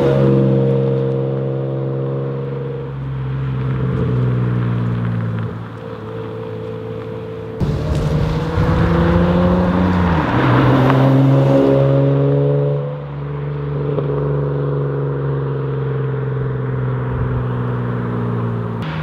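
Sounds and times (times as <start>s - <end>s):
car engine accelerating past: 0.0s - 19.0s.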